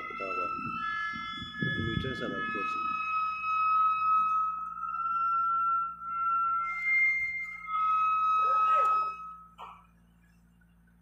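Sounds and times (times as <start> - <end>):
metal squeal of sliding mast: 0.0 - 9.6.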